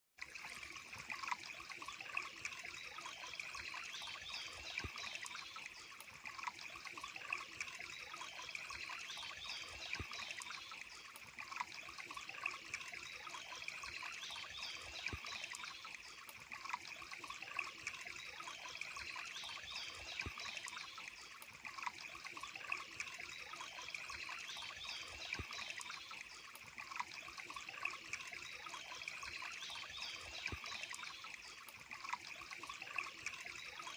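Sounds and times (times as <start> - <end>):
water trickling: 0.2 - 33.9.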